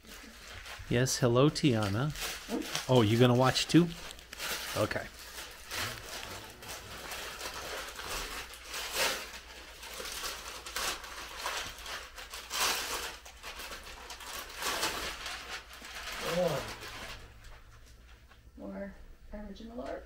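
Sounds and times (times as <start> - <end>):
wrapping paper rustling and tearing: 0.0 - 18.3.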